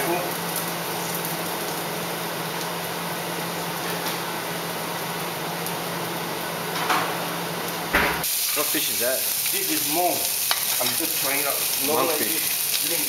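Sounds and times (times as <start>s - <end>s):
fan-like hum with hiss: 0.0s - 13.0s.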